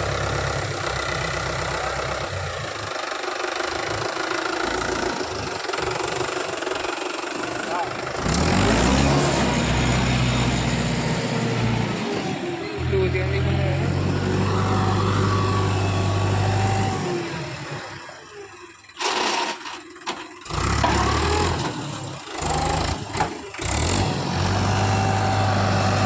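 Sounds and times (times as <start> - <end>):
tractor diesel engine revving: 0.0 - 26.0.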